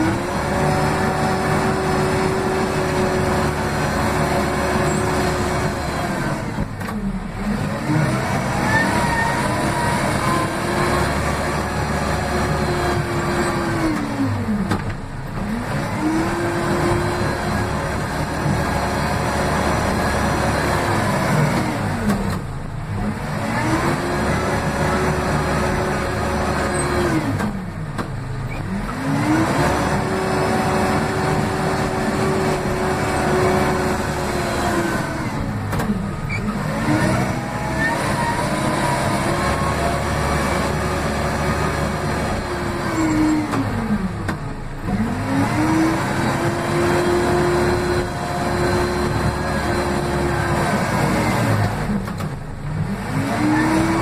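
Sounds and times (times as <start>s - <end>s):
backhoe diesel engine revving: 0.0s - 54.0s.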